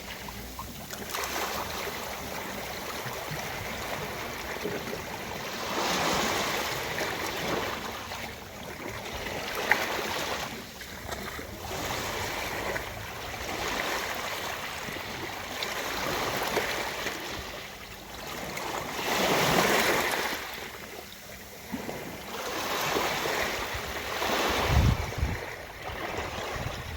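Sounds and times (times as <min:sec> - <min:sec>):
ocean waves washing ashore: 0:00.0 - 0:26.9.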